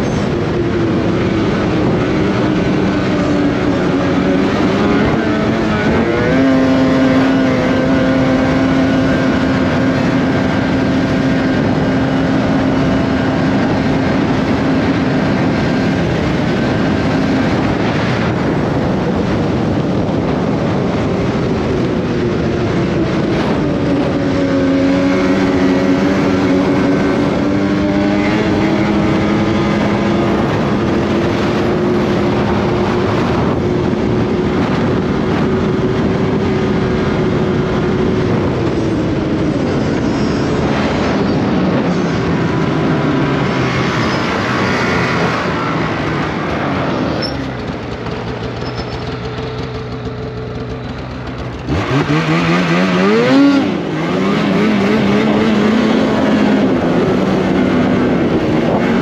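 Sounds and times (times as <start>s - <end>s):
snowmobile engine running hard: 0.0s - 59.0s.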